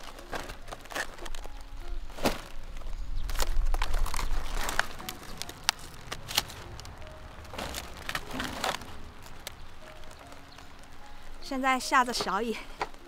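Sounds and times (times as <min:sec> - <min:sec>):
cabbage leaves snapping: 0:00.0 - 0:11.4.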